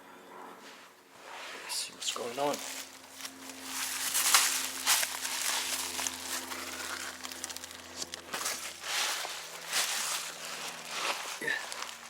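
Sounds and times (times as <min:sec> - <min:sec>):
faint steady hum: 0:00.0 - 0:12.0
rustling and scraping under car: 0:00.6 - 0:12.0.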